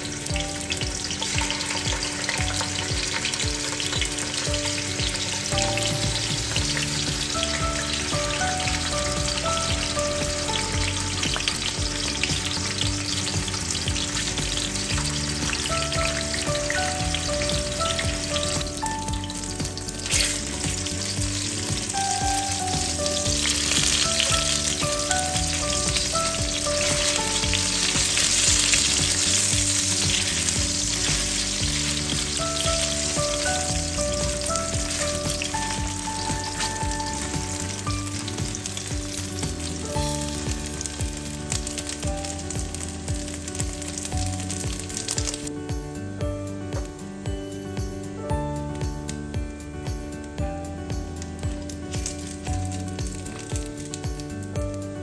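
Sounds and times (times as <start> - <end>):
background music: 0.0 - 55.0
food sizzling in hot oil: 0.0 - 55.0.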